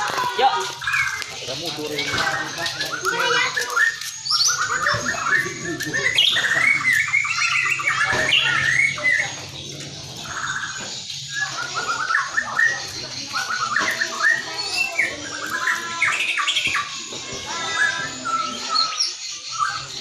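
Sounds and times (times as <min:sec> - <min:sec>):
songbird chattering and whistling: 0:00.0 - 0:20.0.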